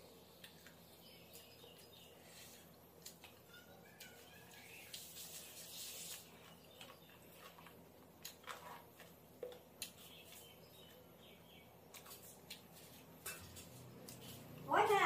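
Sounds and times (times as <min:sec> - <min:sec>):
chewing and mixing food by hand: 0:00.0 - 0:15.0.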